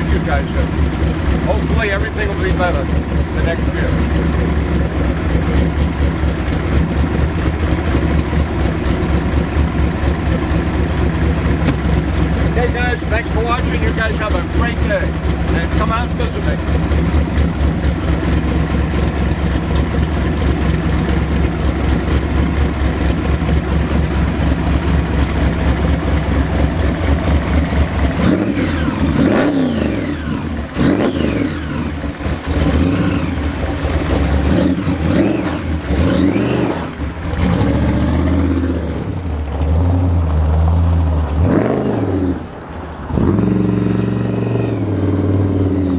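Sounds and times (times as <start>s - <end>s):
hot rod engine idling and revving: 0.0s - 45.9s.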